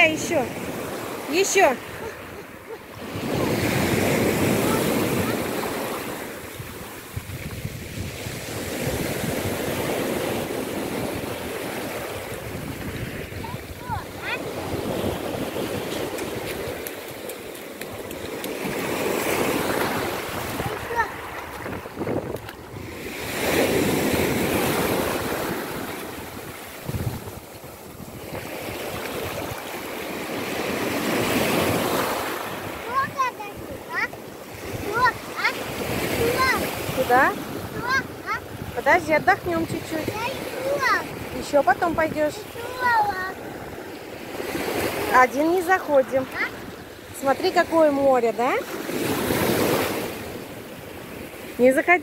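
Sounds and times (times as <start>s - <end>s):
waves washing up a pebble shore: 0.0s - 52.0s.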